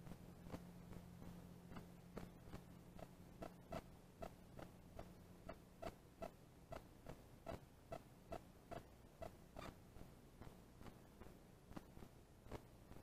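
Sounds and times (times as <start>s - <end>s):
faint regular ticking: 0.0s - 13.0s
low steady hum: 0.0s - 13.0s.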